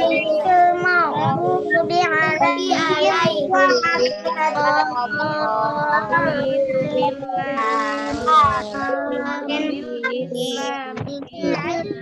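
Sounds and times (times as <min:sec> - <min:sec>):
children chanting a prayer: 0:00.0 - 0:12.0.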